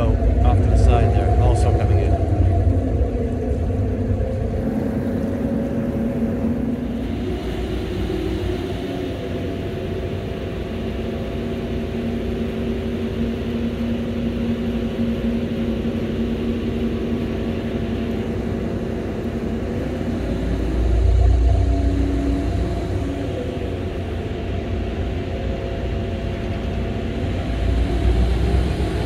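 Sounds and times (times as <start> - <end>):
ship engine drone: 0.0 - 29.0.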